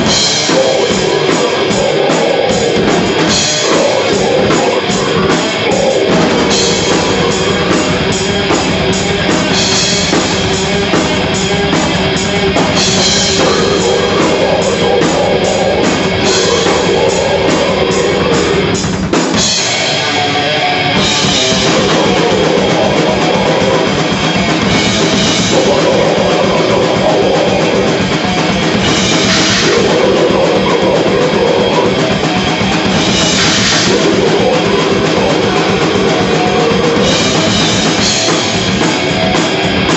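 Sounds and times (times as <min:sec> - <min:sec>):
distorted guitar: 0:00.0 - 0:39.9
fast dense drumming: 0:00.0 - 0:39.9.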